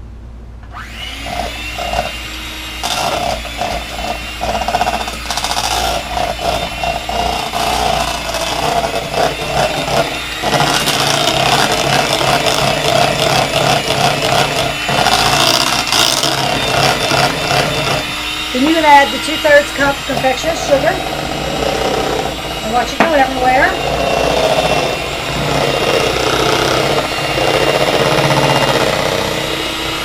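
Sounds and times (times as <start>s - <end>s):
electric mixer whining: 0.7s - 30.0s.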